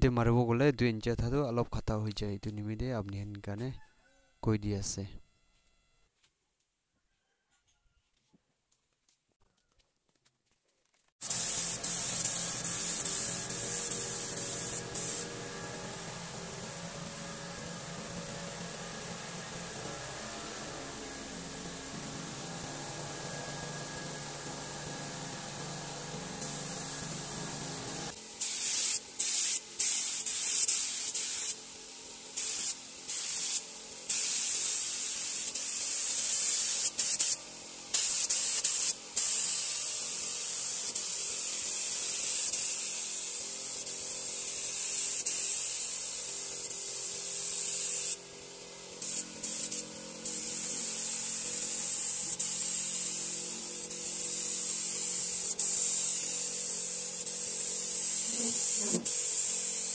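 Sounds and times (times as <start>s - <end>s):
spray gun hissing: 11.2s - 59.9s.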